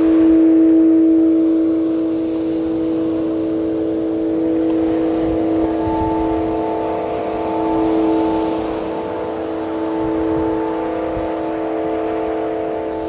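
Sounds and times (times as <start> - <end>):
singing bowl ringing: 0.0 - 13.0
wind noise: 0.0 - 13.0.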